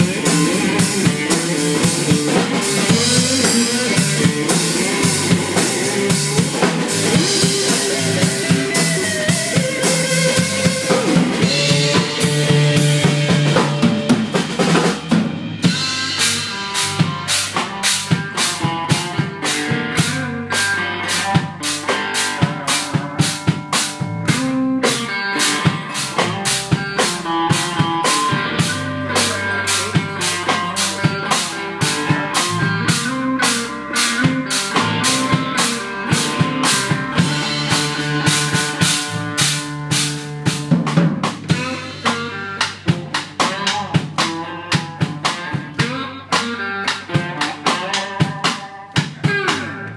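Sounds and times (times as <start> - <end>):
drum kit: 0.0 - 49.9
electric guitar lead: 0.0 - 49.9.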